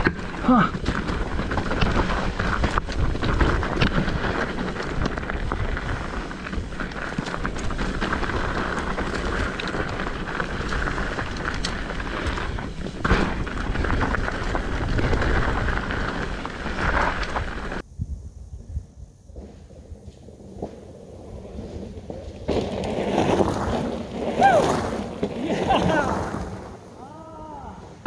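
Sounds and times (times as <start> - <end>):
tyres rumbling on dirt: 0.0 - 17.8, 19.3 - 28.0
bike rattling over bumps: 0.0 - 17.9, 18.8 - 27.2
wind rushing over microphone: 0.0 - 28.0.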